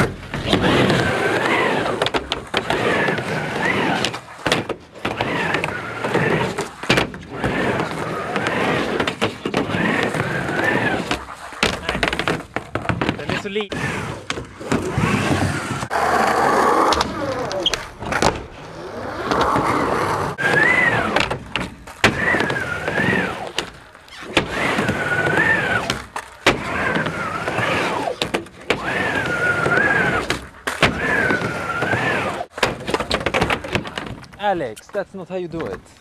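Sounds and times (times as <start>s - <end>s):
skateboard wheels rolling: 0.0s - 36.0s.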